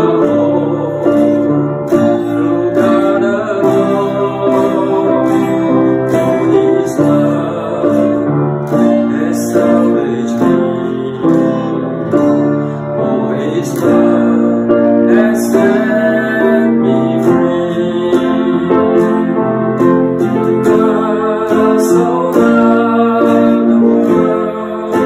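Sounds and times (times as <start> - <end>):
acoustic guitar: 0.0 - 25.0
piano: 0.0 - 25.0.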